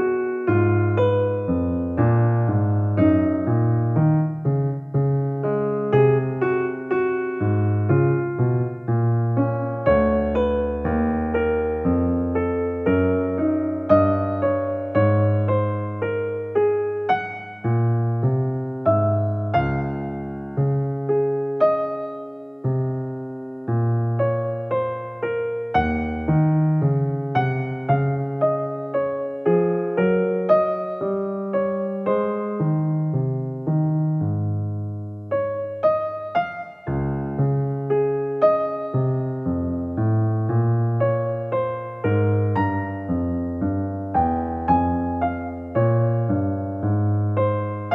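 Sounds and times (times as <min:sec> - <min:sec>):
solo piano piece: 0:00.0 - 0:47.9.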